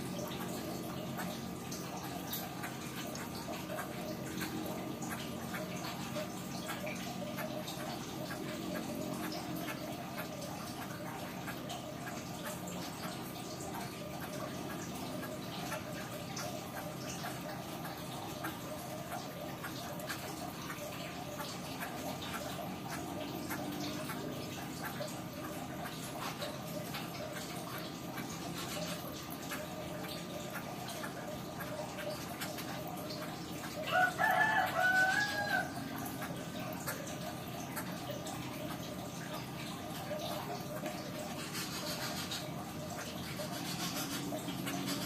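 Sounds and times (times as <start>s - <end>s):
faint dripping: 0.0s - 45.0s
water trickling: 0.0s - 45.0s.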